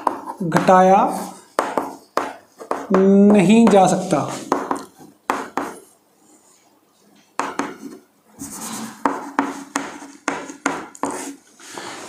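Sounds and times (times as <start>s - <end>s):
chalk writing on a blackboard: 0.0s - 6.6s, 7.5s - 12.0s.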